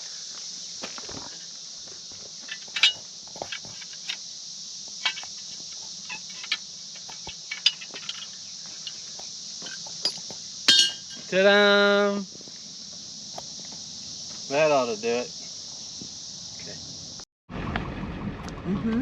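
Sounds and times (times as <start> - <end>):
insects chirring: 0.0 - 17.3.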